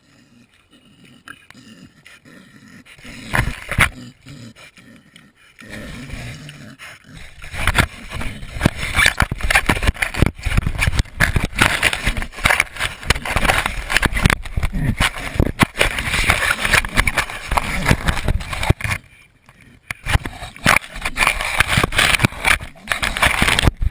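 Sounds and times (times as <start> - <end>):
pigs scraping and knocking camera: 0.6 - 23.9.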